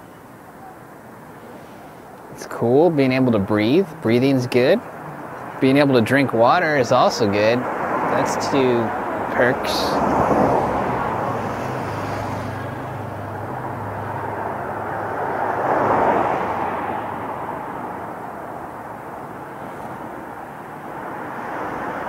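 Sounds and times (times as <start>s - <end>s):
city rushing rumble: 0.0s - 22.0s.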